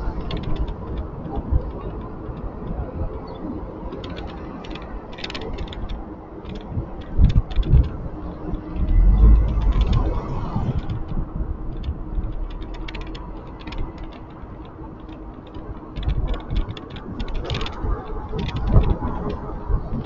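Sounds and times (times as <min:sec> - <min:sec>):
handlebar clicking and rattling: 0:00.0 - 0:20.0
road rumble: 0:00.0 - 0:20.0
wind buffeting microphone: 0:00.0 - 0:20.0.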